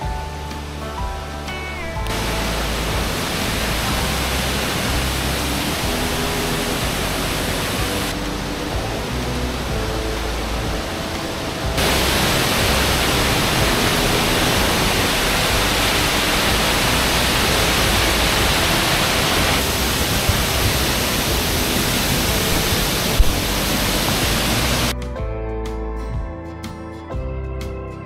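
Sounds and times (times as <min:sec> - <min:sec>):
waterfall roaring: 0:01.7 - 0:24.9.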